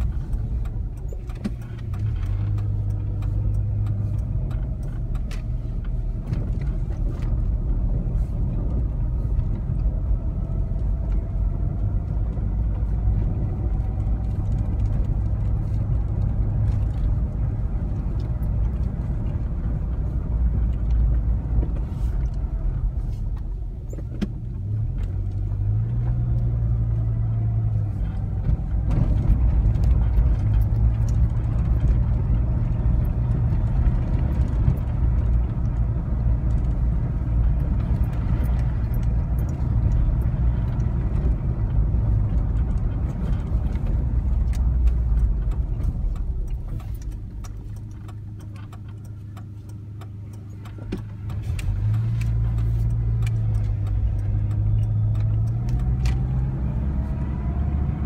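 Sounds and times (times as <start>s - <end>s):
small rattles and clicks: 0.0s - 57.8s
car engine and road rumble: 0.0s - 58.0s.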